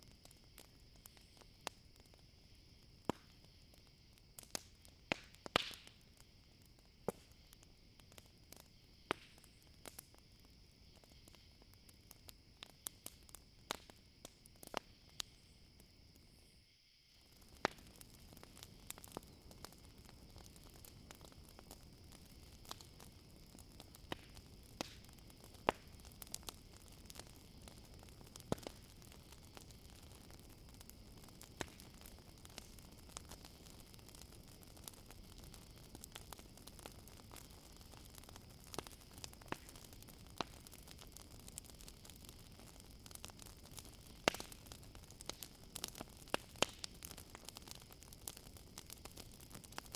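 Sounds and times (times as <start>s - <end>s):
campfire crackling and popping: 0.0s - 49.9s
crickets chirping: 0.0s - 49.9s.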